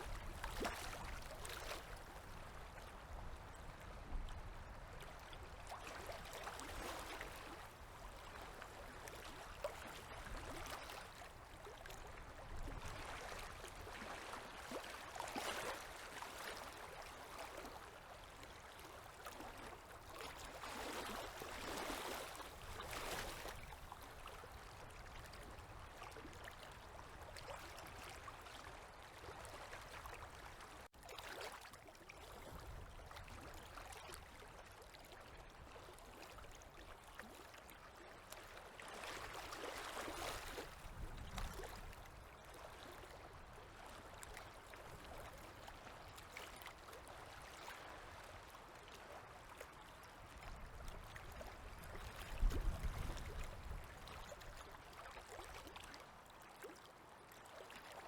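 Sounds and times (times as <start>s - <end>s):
waves lapping at shore: 0.0s - 58.0s.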